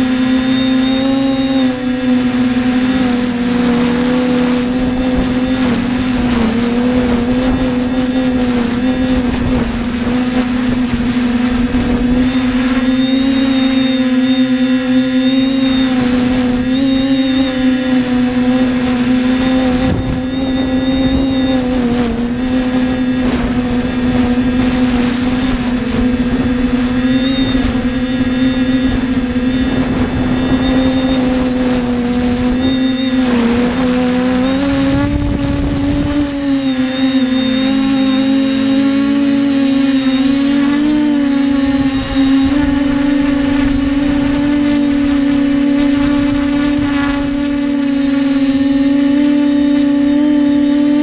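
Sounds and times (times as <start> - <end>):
quadcopter propellers buzzing: 0.0 - 51.0.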